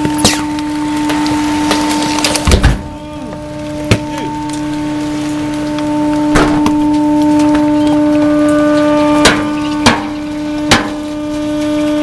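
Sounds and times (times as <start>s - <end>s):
garbage truck droning hum: 0.0s - 12.0s
trash cracking: 0.0s - 12.0s.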